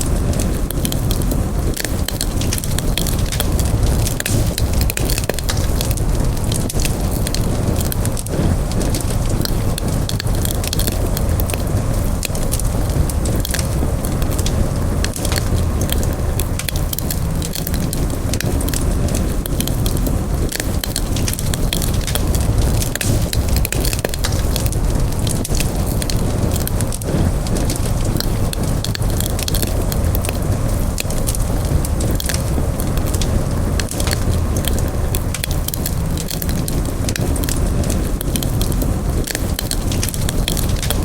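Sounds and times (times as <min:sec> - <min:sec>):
campfire crackling and popping: 0:00.0 - 0:41.0
low rumble of flames: 0:00.0 - 0:41.0.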